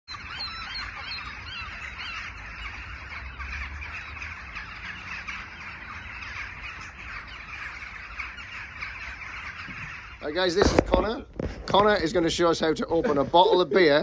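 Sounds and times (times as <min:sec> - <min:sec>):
flock of birds chattering: 0:00.1 - 0:14.0.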